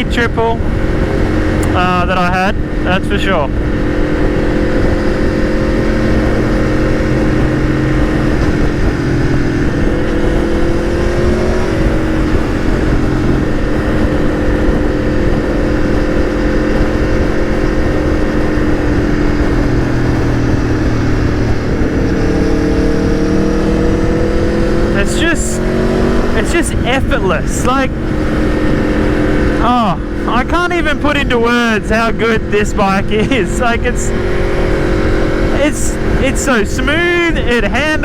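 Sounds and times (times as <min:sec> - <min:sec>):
motorcycle engine cruising: 0:00.0 - 0:38.0
wind rushing: 0:00.0 - 0:38.0.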